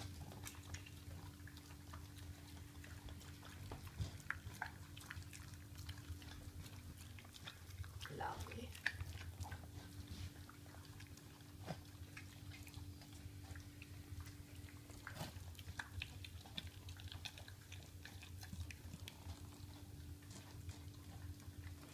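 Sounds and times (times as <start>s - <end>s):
dog chewing and eating: 0.0s - 21.9s.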